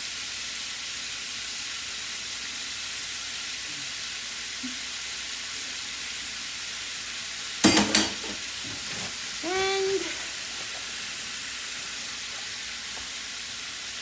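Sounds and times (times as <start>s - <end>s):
chicken frying in a pan: 0.0s - 14.0s.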